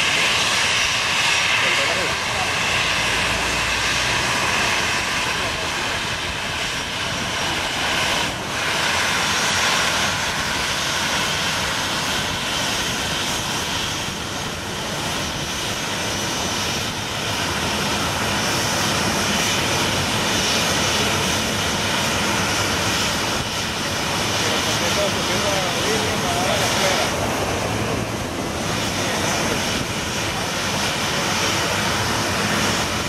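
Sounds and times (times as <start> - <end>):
jet engines whining: 0.0 - 33.0.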